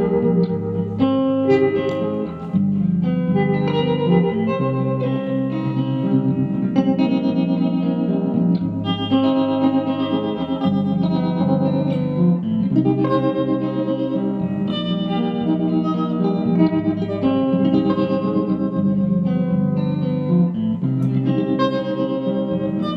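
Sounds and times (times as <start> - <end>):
electric guitar ringing chords: 0.0 - 22.9.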